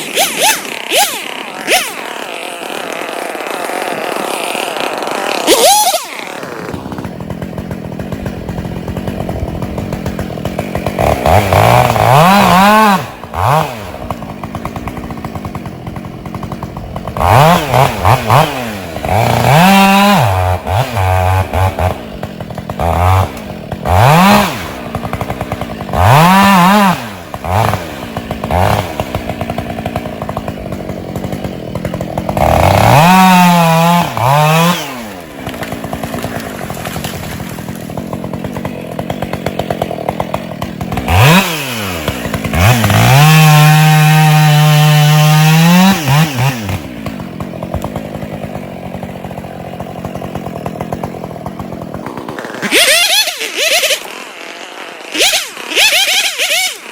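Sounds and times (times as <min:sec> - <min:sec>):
chainsaw idling and revving: 0:00.0 - 0:56.9.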